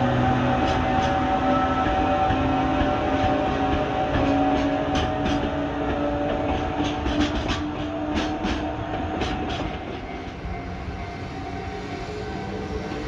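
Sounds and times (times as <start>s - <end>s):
freight train rumble: 0.0s - 13.0s
train wheels clacking on rail joints: 0.0s - 13.0s.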